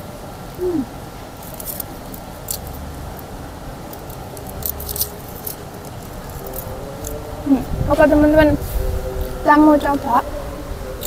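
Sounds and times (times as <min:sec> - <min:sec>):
low hum falling in pitch: 0:00.0 - 0:11.0.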